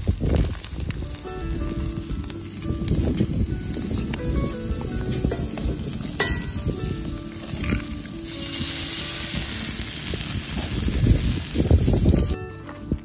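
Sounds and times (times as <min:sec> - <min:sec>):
sizzling hiss: 0:00.0 - 0:12.4
background music: 0:00.9 - 0:13.0.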